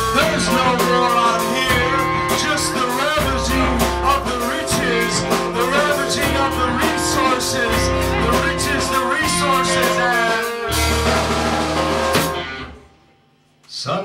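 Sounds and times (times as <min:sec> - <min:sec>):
person singing: 0:00.0 - 0:11.3
drums hitting: 0:00.0 - 0:12.9
rock band playing: 0:00.0 - 0:13.0.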